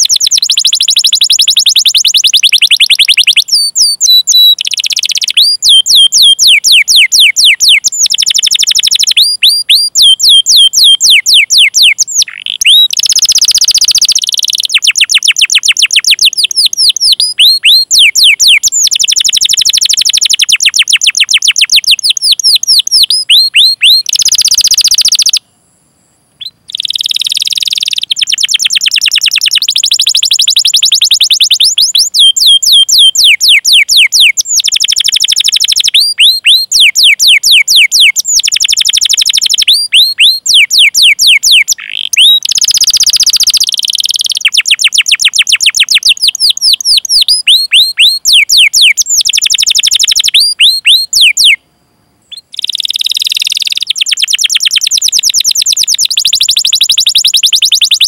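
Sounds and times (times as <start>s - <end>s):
canary singing in chirps and trills: 0.0s - 25.4s, 26.4s - 51.6s, 52.3s - 58.0s.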